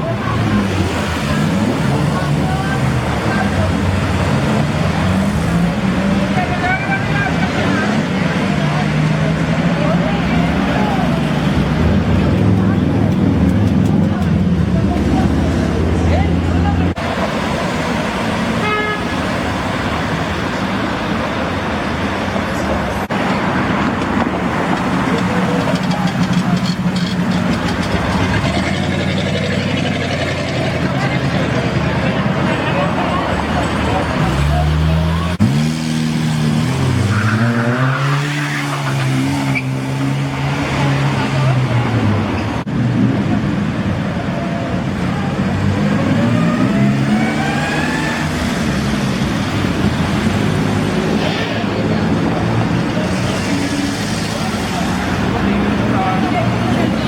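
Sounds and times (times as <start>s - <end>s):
car engines pulling away: 0.0s - 18.6s, 19.2s - 57.0s.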